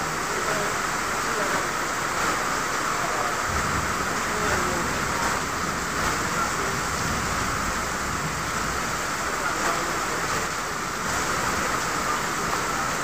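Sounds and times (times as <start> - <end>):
heavy rain on standing water: 0.0 - 13.0.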